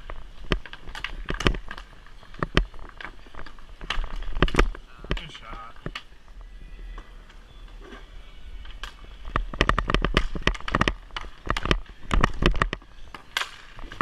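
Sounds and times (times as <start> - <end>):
hockey sticks and balls clattering: 0.0 - 14.0.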